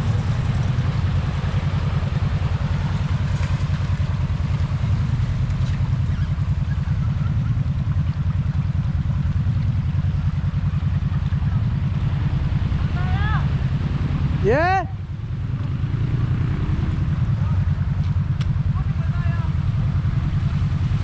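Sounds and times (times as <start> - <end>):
vehicle engine running at low revs: 0.0 - 21.0.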